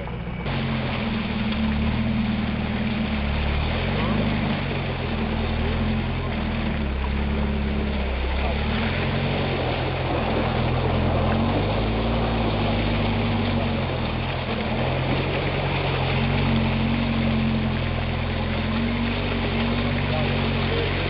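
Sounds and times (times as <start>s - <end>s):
car engine running at low revs: 0.0s - 21.0s
tyre churning mud: 0.0s - 21.0s.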